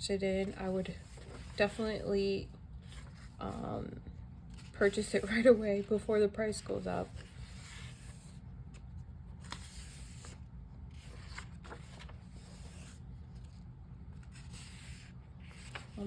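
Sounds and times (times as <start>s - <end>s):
low steady hum: 0.0s - 16.0s
paper pages rustling: 0.4s - 2.2s, 2.8s - 16.0s.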